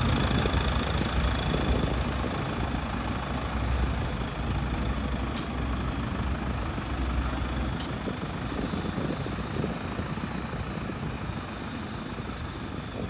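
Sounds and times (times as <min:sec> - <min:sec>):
tractor engine rumble: 0:00.0 - 0:13.0.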